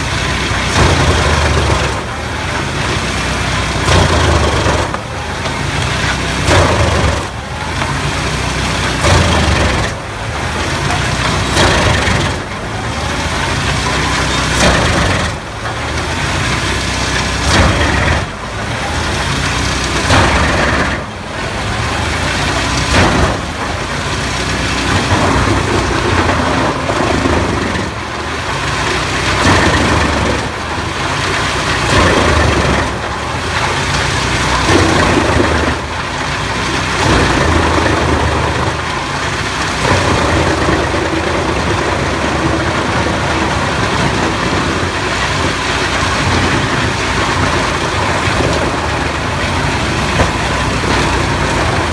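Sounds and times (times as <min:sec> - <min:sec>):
wood chipper and tractor engine: 0:00.0 - 0:51.9.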